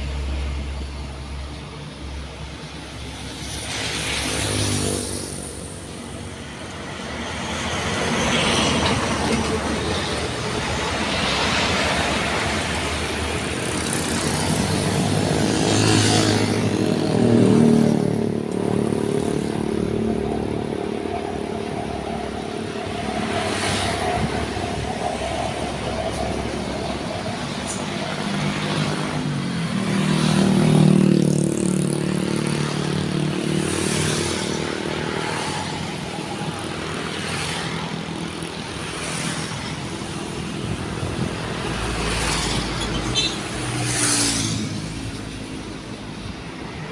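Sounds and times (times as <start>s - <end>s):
vehicle engines passing: 0.0s - 46.9s.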